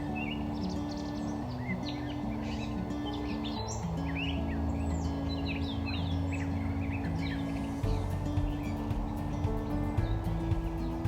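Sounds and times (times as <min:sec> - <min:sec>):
small birds chirping: 0:00.0 - 0:11.0
soft acoustic music: 0:00.0 - 0:11.0.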